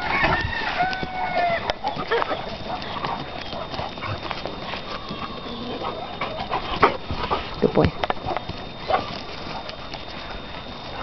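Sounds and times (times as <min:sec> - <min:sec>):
dog footfalls on dirt: 0:00.0 - 0:11.0.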